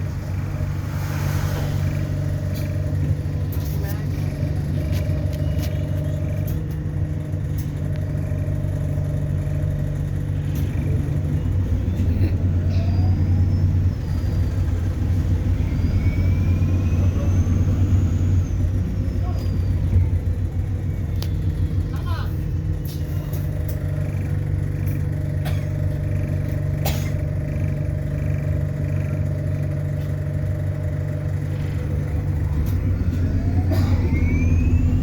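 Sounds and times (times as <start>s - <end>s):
bus drivetrain rumble: 0.0s - 35.0s.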